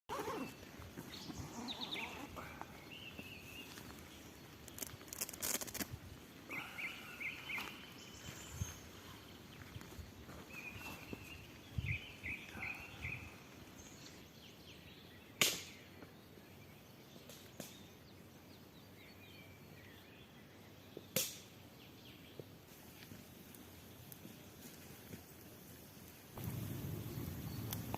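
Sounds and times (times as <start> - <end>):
small birds chirping: 0.1 - 27.9
woodland ambience: 0.1 - 27.9.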